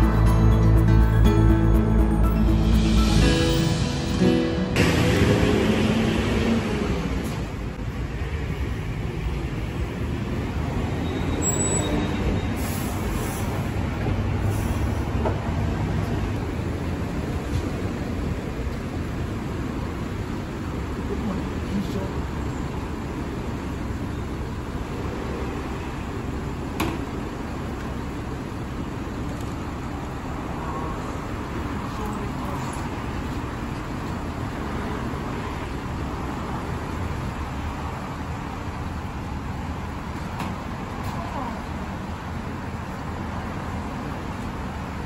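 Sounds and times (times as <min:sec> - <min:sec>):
bus engine rumbling: 0:00.0 - 0:45.0
street traffic: 0:00.0 - 0:45.0.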